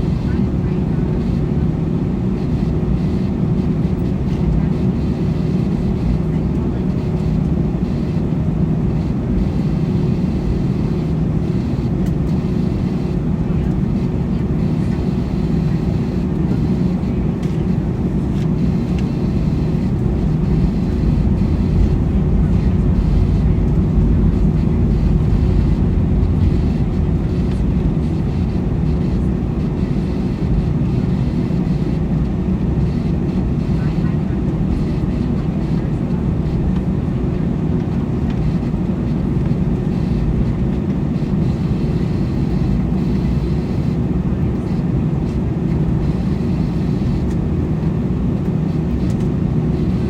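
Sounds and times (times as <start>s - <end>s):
airliner cabin rumble: 0.0s - 50.0s.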